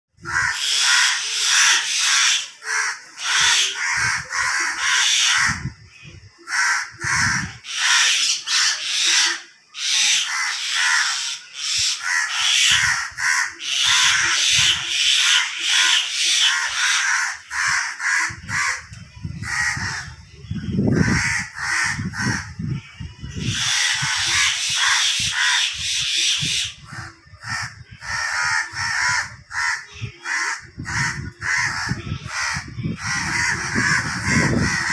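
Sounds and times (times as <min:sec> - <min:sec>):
crows cawing: 0:00.2 - 0:05.8, 0:06.4 - 0:20.2, 0:20.9 - 0:22.6, 0:23.4 - 0:34.9.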